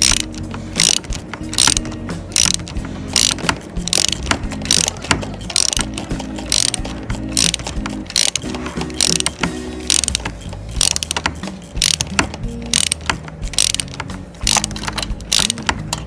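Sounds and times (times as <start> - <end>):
ratchet wrench clicking: 0.0 - 16.0.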